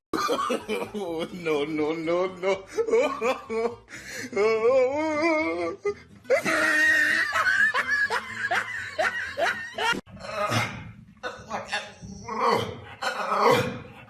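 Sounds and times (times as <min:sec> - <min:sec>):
music: 0:00.2 - 0:14.0.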